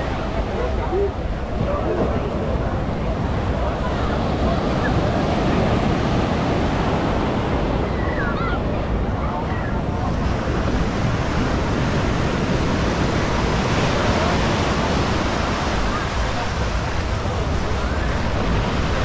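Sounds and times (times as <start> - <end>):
surf breaking on beach: 0.0 - 19.0
wind on microphone: 0.0 - 19.0.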